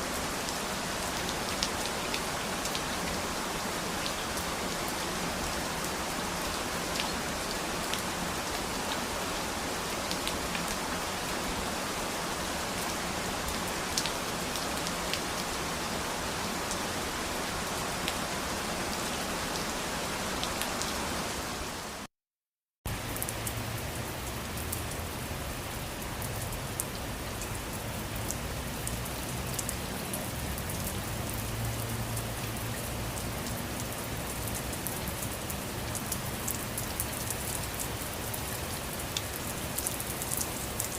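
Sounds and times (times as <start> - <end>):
steady rain falling: 0.0 - 22.1, 22.9 - 40.9.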